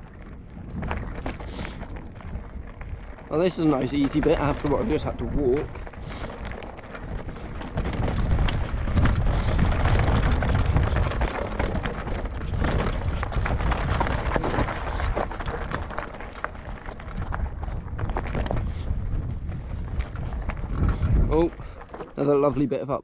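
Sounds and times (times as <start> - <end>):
bike clattering: 0.0 - 22.6
bike tyres crunching on stones: 0.0 - 22.7
wind buffeting microphone: 0.0 - 22.9.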